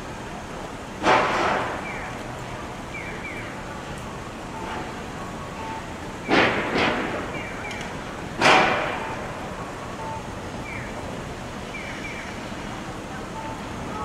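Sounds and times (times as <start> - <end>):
streetcar moving on track: 0.0 - 14.0.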